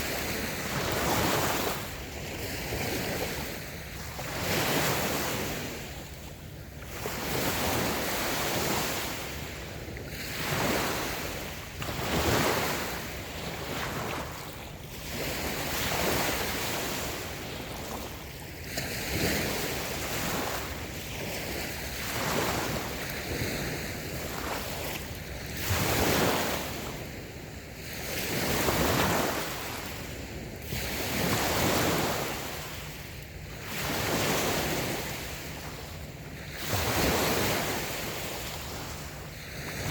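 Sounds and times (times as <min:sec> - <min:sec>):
small waves washing up a beach: 0:00.0 - 0:39.9
wind on microphone: 0:00.0 - 0:39.9.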